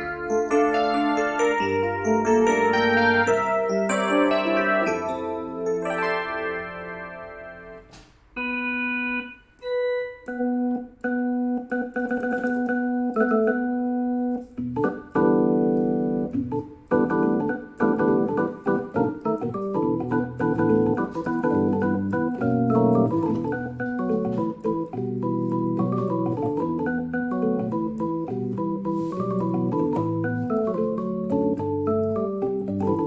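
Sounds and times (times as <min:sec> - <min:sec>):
electronic keyboard organ tone: 0:00.0 - 0:33.0.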